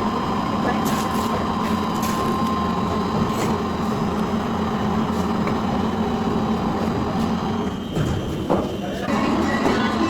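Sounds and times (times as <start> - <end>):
factory machinery hum: 0.0 - 10.0.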